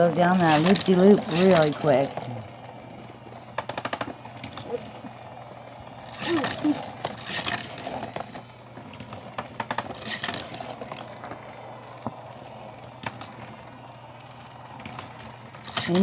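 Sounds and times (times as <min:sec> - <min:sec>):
toy trains clattering on track: 0:00.0 - 0:16.0.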